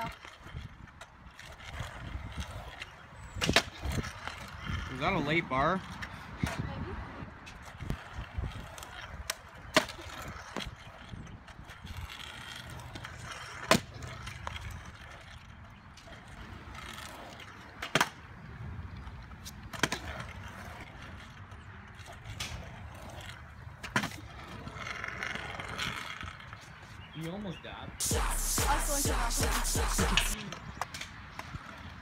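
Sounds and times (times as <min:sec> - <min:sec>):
scooter wheels rolling: 0:00.0 - 0:27.5.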